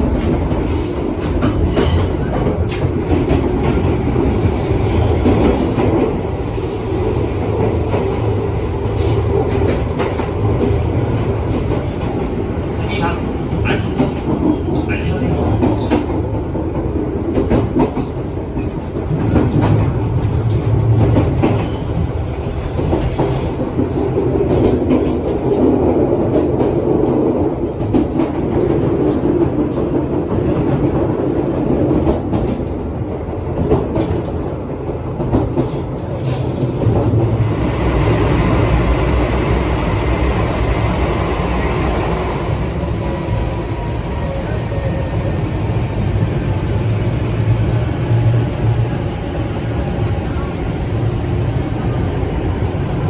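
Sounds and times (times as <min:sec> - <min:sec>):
electric train rumble: 0:00.0 - 0:53.0.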